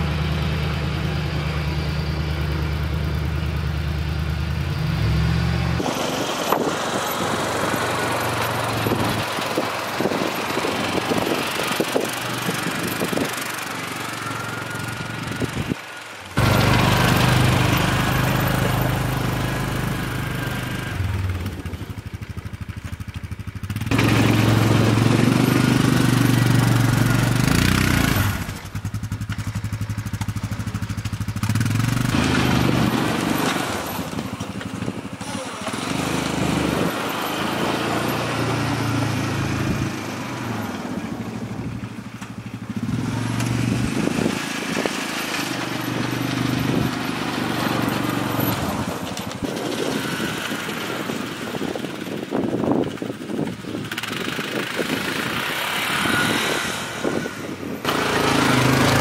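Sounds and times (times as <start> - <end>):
snow-clearing machine engine: 0.0 - 59.0.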